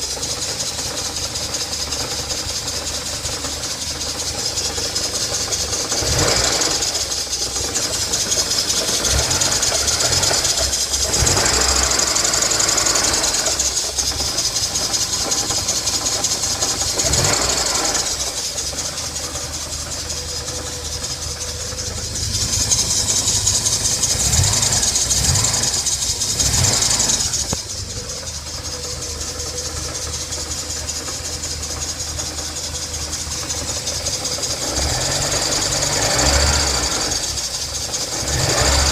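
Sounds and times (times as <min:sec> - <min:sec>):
car engine running: 0:00.0 - 0:38.9
high hiss and rattle: 0:06.6 - 0:38.1.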